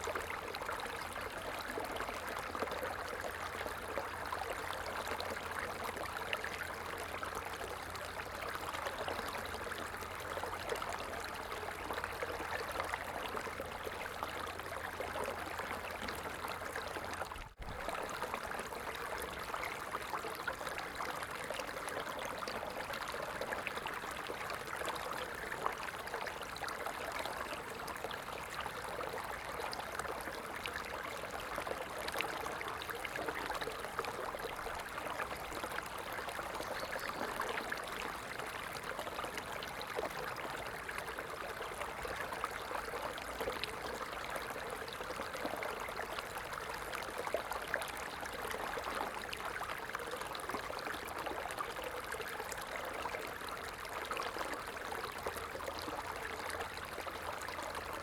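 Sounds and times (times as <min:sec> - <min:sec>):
stream of water running: 0:00.0 - 0:58.0.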